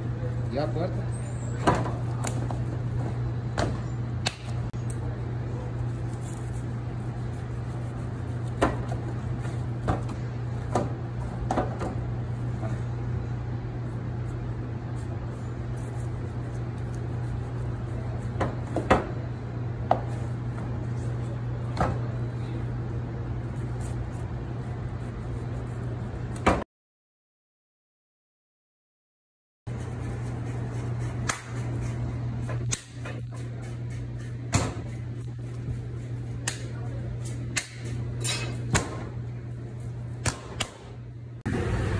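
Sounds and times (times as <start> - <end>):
kitchen equipment hum: 0.0 - 26.6, 29.7 - 41.9.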